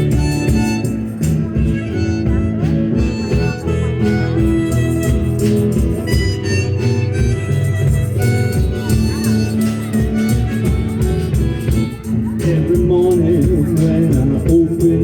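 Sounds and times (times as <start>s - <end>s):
harmonica bending notes: 0.0s - 12.6s
acoustic guitar accompaniment: 0.0s - 15.0s.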